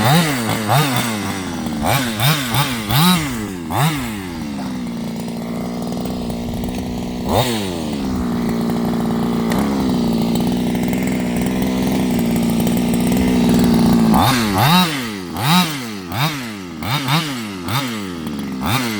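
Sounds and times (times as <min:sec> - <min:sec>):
small two-stroke engine revving: 0:00.0 - 0:18.9.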